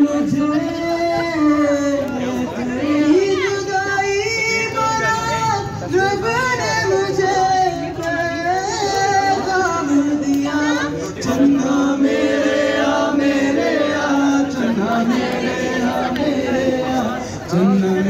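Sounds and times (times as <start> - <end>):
man singing into microphone: 0.0 - 18.0.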